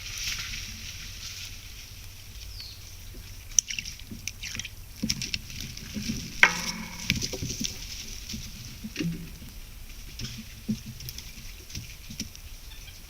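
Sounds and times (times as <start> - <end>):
animal rustling and scratching: 0.0 - 13.0.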